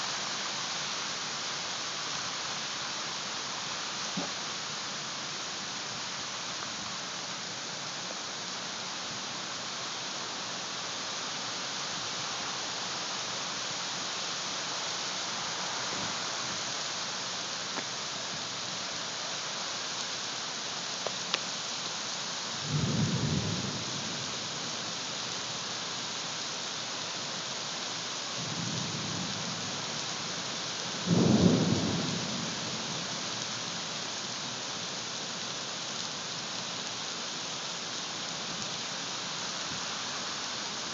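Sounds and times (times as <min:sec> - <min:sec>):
rain pouring: 0:00.0 - 0:40.9.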